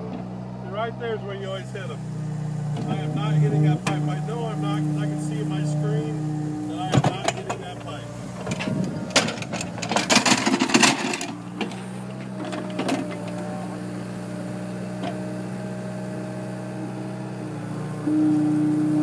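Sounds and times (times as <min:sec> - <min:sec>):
excavator engine droning: 0:00.0 - 0:19.0.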